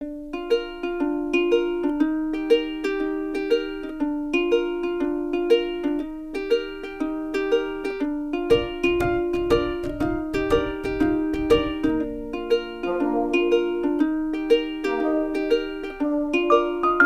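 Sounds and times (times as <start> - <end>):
plucked-string melody: 0.0 - 17.0.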